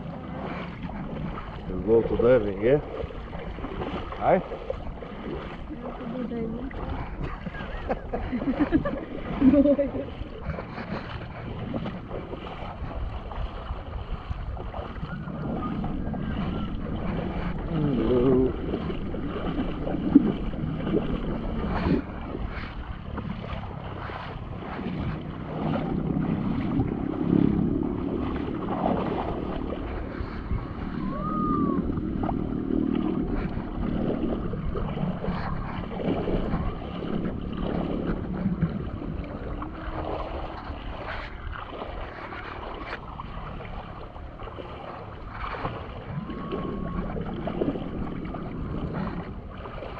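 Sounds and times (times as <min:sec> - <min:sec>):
water sloshing around wading legs: 0:00.0 - 0:49.9
wind buffeting microphone: 0:00.0 - 0:49.9.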